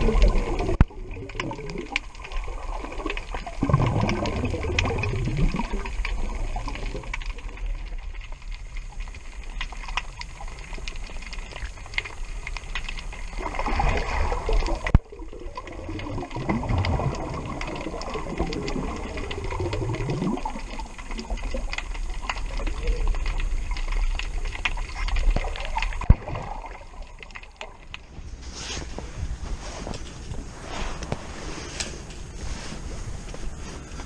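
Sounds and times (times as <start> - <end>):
small crackles: 0.0 - 34.0
water gurgling and sloshing: 0.0 - 34.0.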